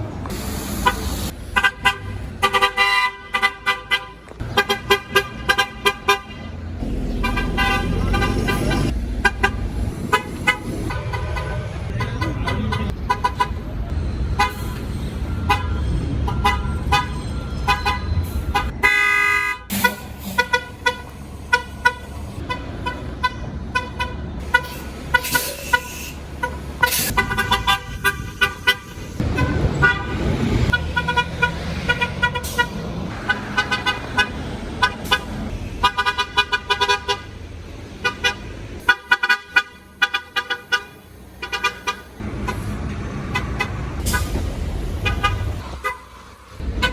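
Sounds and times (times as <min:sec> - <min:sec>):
bus engines rumbling: 0:00.0 - 0:46.9
street traffic: 0:00.0 - 0:46.9
bus horns tooting: 0:00.7 - 0:46.9.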